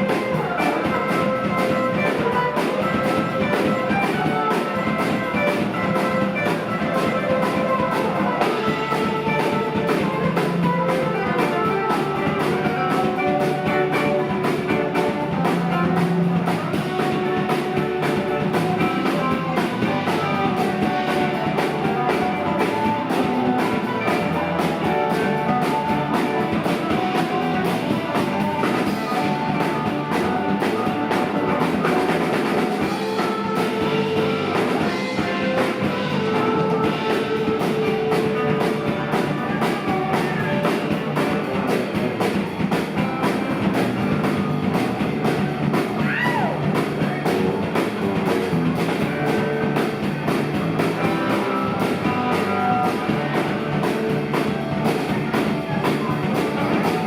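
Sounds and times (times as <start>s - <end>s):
drum kit: 0.0s - 57.0s
guitar: 0.0s - 57.0s.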